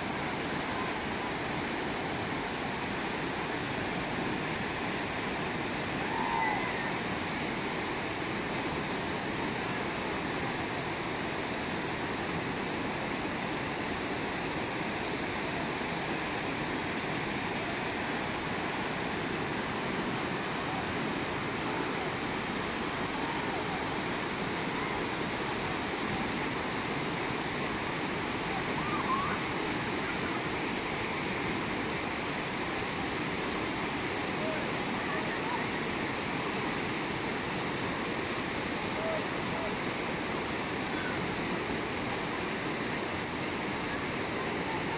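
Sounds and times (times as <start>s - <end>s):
whitewater rapids roaring: 0.0s - 44.9s.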